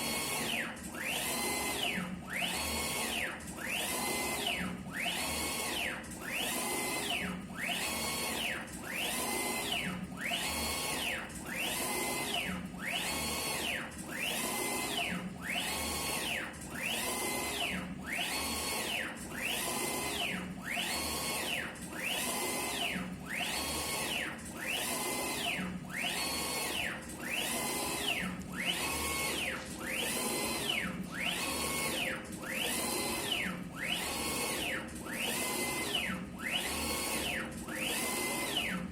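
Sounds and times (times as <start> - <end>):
printer carriage motor whining: 0.0 - 38.9.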